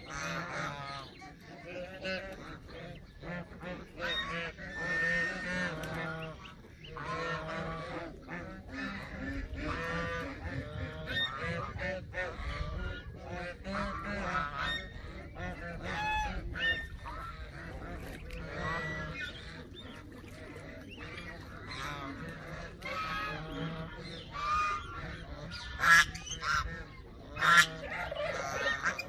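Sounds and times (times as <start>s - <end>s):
geese honking: 0.0s - 29.0s.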